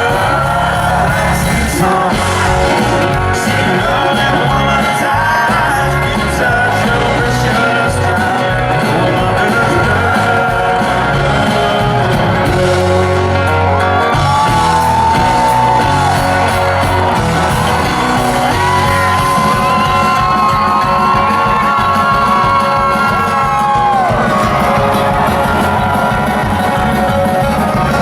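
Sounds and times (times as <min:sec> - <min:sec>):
country band playing live: 0:00.0 - 0:28.0.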